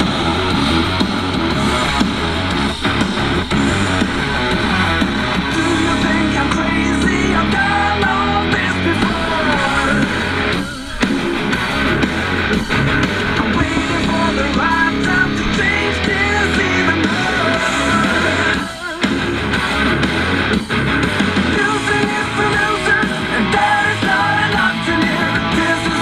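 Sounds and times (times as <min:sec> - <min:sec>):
rock music with singing: 0:00.0 - 0:26.0.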